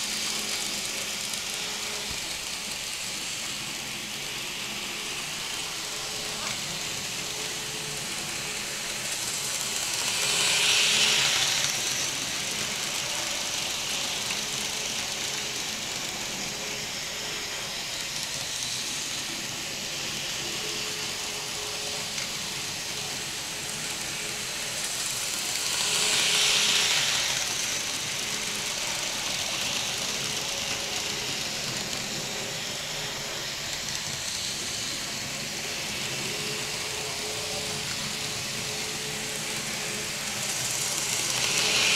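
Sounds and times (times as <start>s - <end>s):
model train whirring on track: 0.0s - 41.9s.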